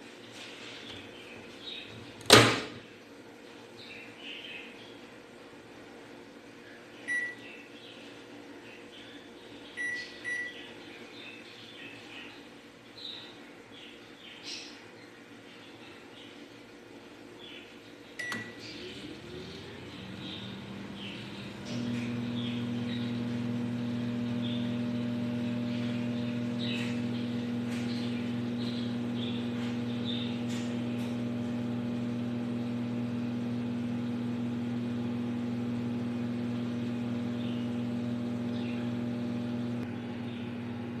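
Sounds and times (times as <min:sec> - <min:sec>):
microwave oven humming: 0:00.8 - 0:41.0.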